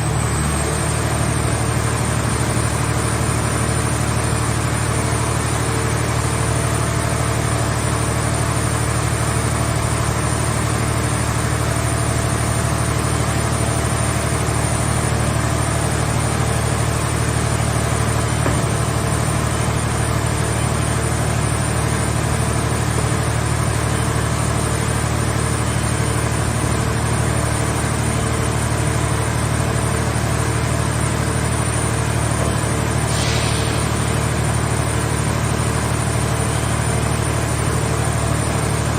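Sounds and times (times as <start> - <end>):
power unit engine hum: 0.0 - 38.9.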